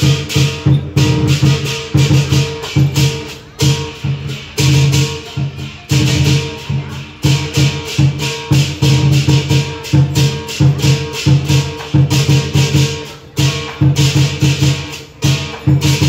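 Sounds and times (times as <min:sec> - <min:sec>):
cymbals clashing: 0:00.0 - 0:16.0
drum beating fast rhythm: 0:00.0 - 0:16.0.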